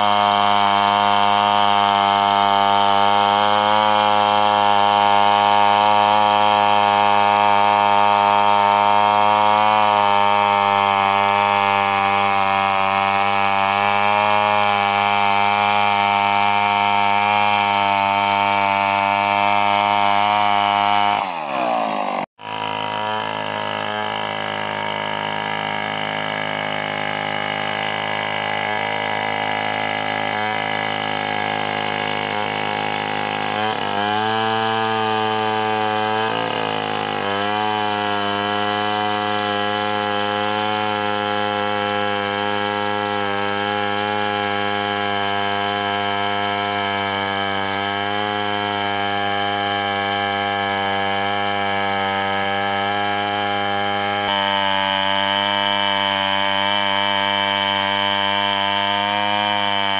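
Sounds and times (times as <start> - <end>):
chainsaw cutting through log: 0.0 - 59.9.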